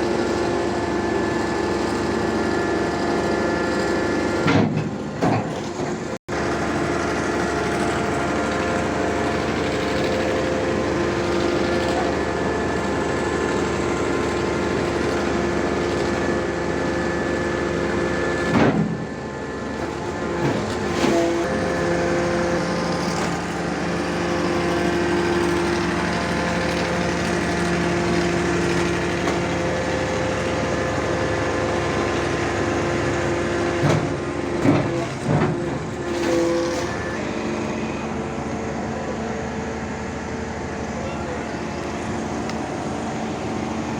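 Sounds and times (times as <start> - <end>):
hydraulic pump whine: 0.0 - 43.9
deeper machine tone: 6.3 - 43.9.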